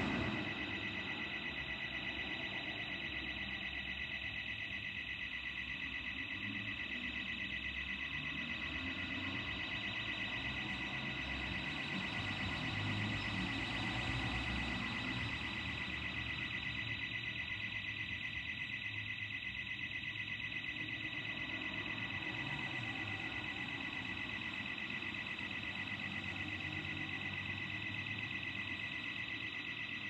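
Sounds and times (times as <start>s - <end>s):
burglar alarm pulsing: 0.0s - 30.0s.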